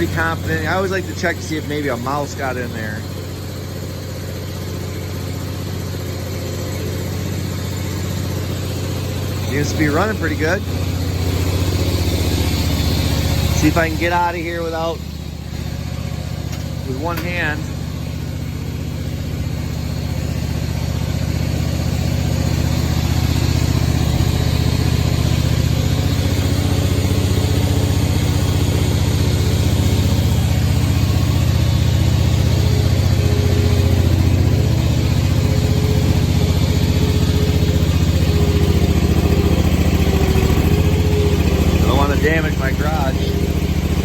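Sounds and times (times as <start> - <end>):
mower engine running: 0.0 - 44.0.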